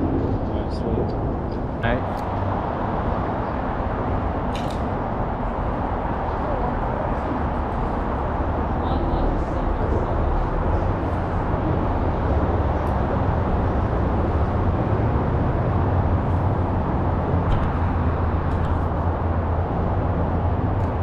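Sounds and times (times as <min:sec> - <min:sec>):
road traffic rumble on bridge: 0:00.0 - 0:21.0.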